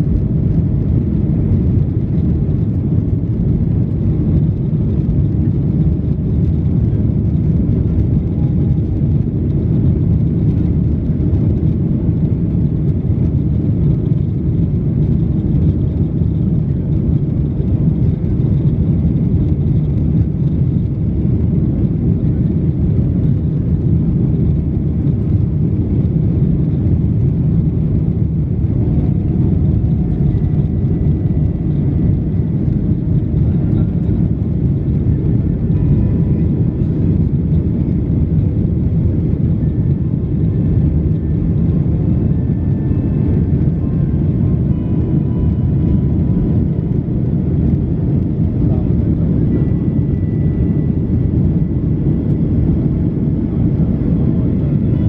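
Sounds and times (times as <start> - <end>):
jet engines heard from cabin: 0.0 - 55.0.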